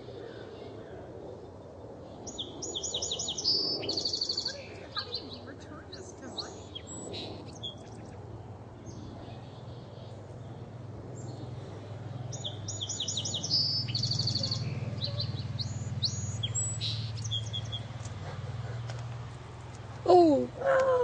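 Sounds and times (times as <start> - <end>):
steady low hum: 0.0 - 21.0
sparrow singing: 2.0 - 18.9.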